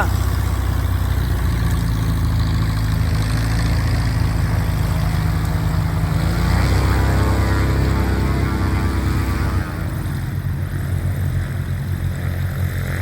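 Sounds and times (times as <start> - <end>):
propeller aircraft engine: 0.0 - 13.0.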